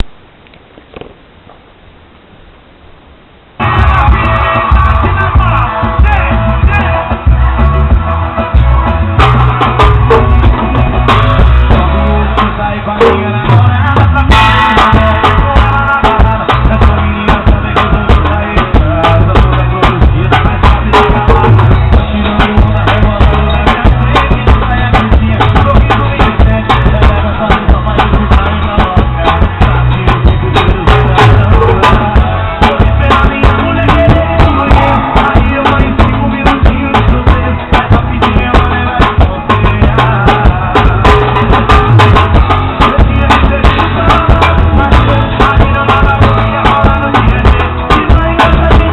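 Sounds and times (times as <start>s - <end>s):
loud song with bass: 0.0s - 0.4s, 3.1s - 48.9s
drum kit hit with wooden skewers: 3.6s - 48.9s.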